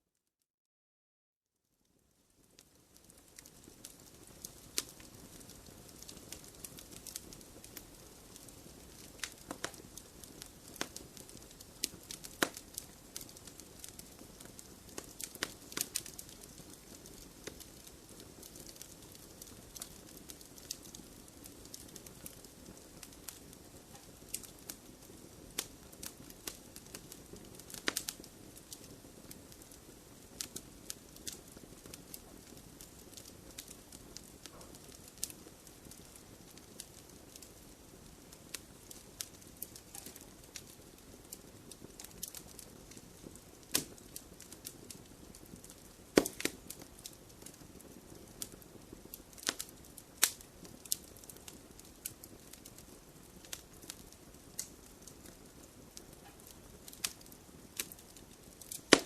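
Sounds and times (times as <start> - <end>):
wood fire crackling and popping: 2.2 - 59.0.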